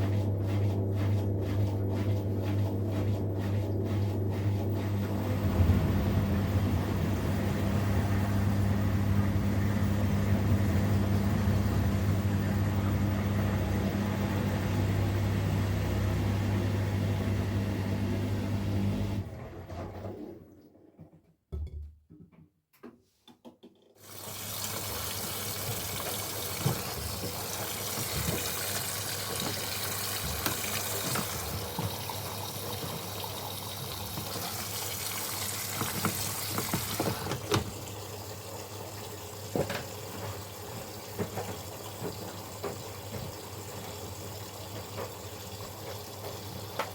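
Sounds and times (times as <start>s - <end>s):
washing machine motor and drum hum: 0.0s - 21.1s, 24.0s - 46.9s
water rushing into washing machine: 0.0s - 21.2s, 24.0s - 46.9s.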